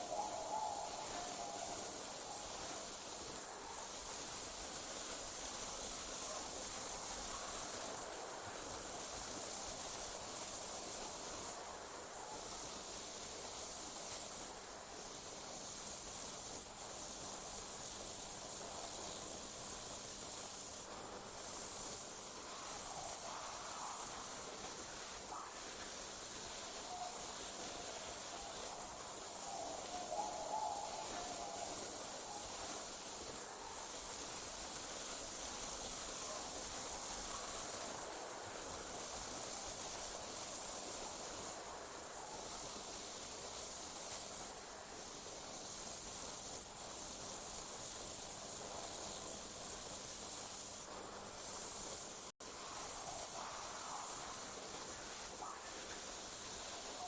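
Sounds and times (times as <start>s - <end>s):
crickets trilling: 0.0s - 11.6s, 12.2s - 57.0s.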